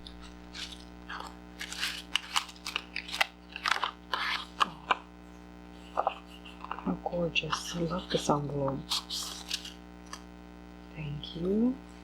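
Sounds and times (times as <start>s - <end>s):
paper rustling and crinkling: 0.0s - 5.1s, 5.7s - 10.2s.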